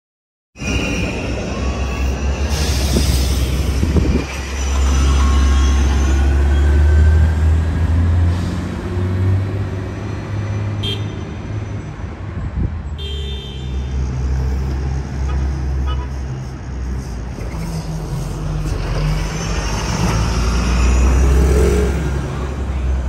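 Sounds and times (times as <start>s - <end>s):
bus engines droning: 0.6s - 23.0s
street traffic: 0.6s - 23.0s.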